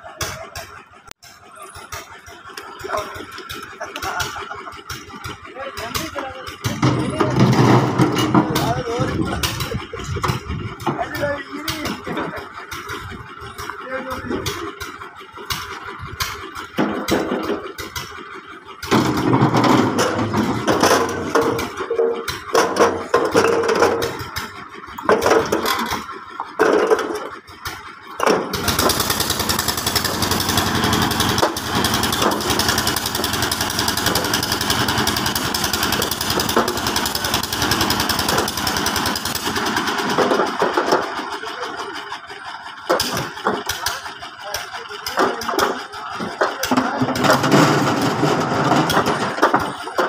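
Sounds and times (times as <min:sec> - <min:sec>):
hoist motor rattling: 0:00.0 - 0:50.0.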